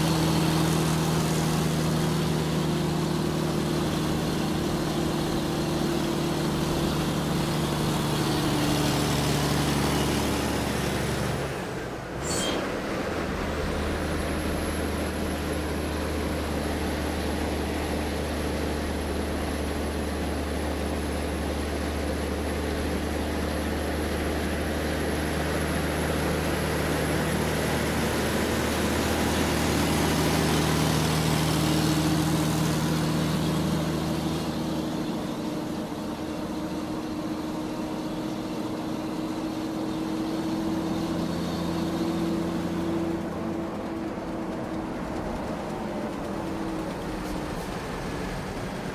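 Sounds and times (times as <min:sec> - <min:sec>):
excavator diesel engine droning: 0:00.0 - 0:48.9.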